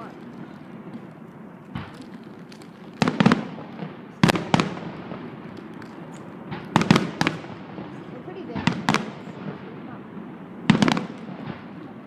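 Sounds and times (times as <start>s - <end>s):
fireworks bursting in sharp bangs: 0.0s - 12.0s.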